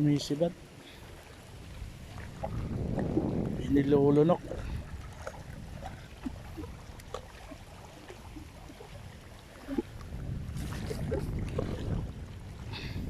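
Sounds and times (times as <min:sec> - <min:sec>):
wind buffeting microphone: 0:01.4 - 0:13.0.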